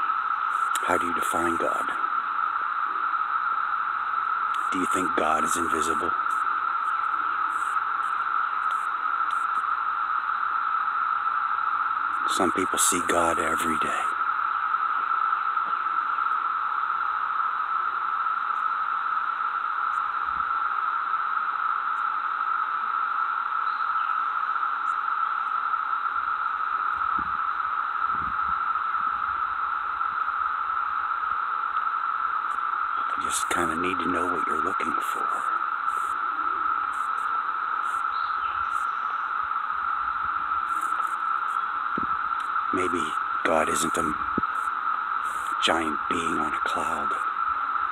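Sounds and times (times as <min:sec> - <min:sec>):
constant high tone: 0:00.0 - 0:47.9
steady hiss: 0:00.0 - 0:47.9.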